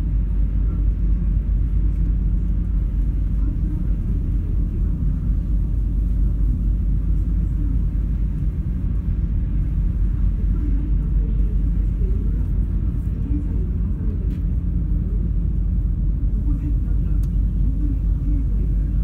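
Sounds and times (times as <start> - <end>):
ferry engines droning: 0.0 - 19.0.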